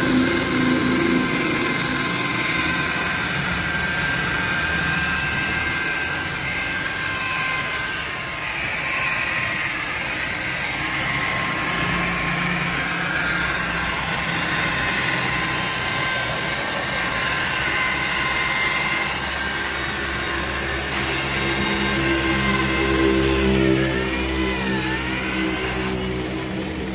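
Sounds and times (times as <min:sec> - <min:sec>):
electric polisher motor whine: 0:00.0 - 0:26.9.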